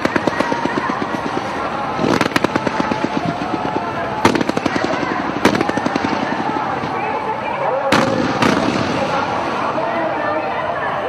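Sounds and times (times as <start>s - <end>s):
fireworks crackling bangs: 0.0s - 10.3s.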